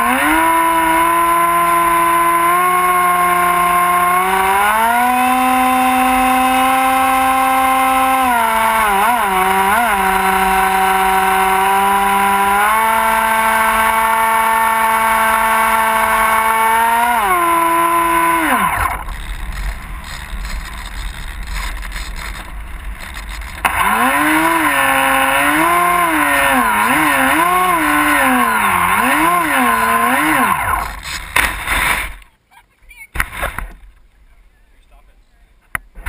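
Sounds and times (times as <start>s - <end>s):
model plane electric motor whine: 0.0s - 31.1s.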